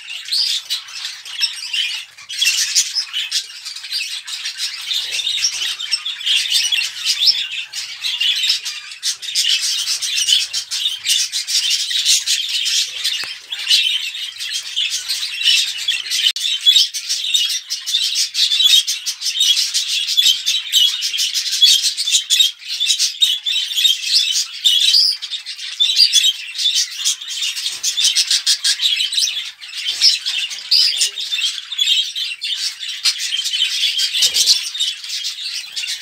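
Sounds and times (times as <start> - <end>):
budgerigars chattering: 0.0 - 36.0.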